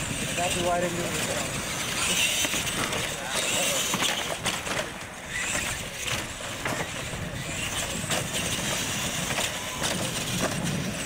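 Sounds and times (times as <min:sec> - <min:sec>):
toy truck motors whining: 0:00.0 - 0:11.0
tyres rolling on concrete: 0:00.0 - 0:11.0.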